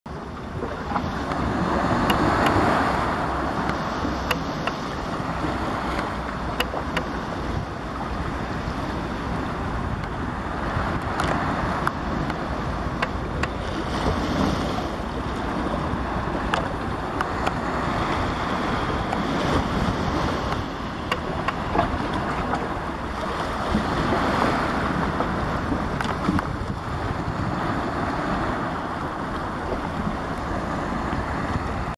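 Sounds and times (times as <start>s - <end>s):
sea surf on rocky shore: 0.1s - 31.9s
wind rumbling on microphone: 0.1s - 31.9s.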